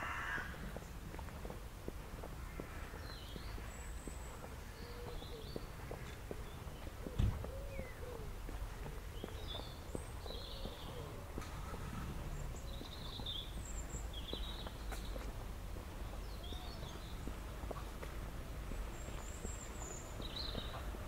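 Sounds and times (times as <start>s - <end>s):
footsteps on paved path: 0.0s - 21.0s
small birds chirping: 2.3s - 21.0s.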